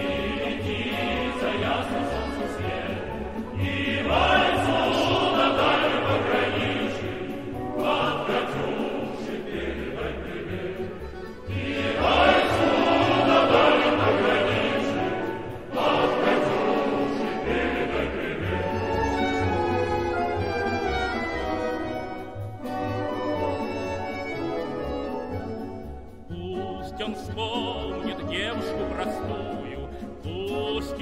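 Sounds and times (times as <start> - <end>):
male choir singing: 0.0 - 21.8, 26.3 - 31.0
orchestra playing: 0.0 - 31.0.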